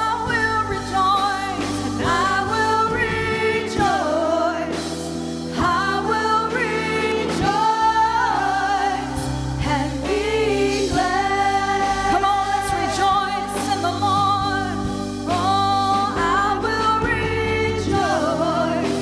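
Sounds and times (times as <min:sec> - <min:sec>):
gospel voices singing: 0:00.0 - 0:19.0
steady musical accompaniment: 0:00.0 - 0:19.0.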